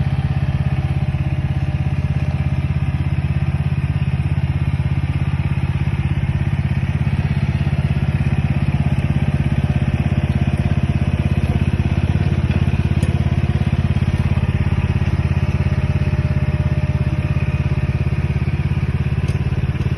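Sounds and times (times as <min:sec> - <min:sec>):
excavator engine running: 0:00.0 - 0:19.9.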